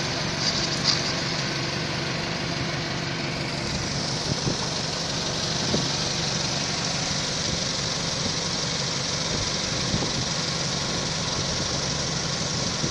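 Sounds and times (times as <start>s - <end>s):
car engine idling with knock: 0.0s - 12.9s.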